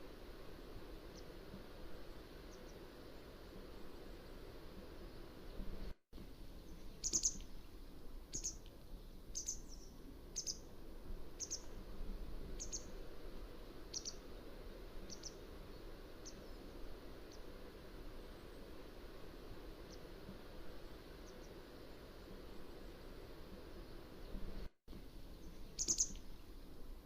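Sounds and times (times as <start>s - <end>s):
faint background hiss: 0.0s - 27.0s.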